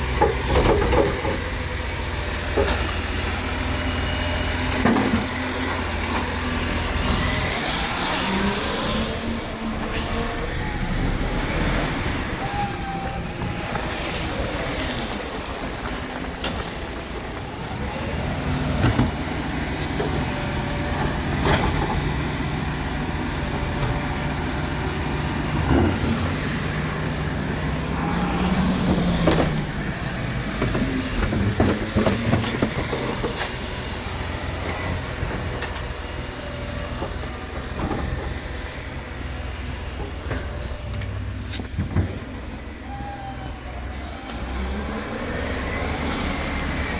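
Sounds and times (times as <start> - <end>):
garbage truck engine running: 0.0 - 46.9.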